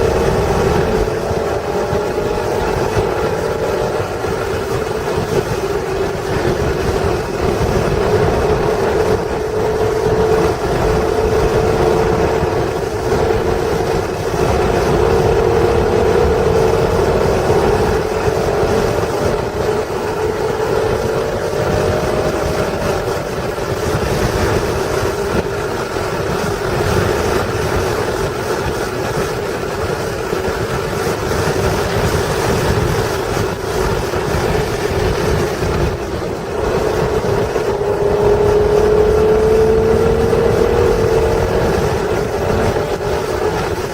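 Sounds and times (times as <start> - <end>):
car engine at speed: 0.0 - 43.9
road and wind rumble: 0.0 - 43.9.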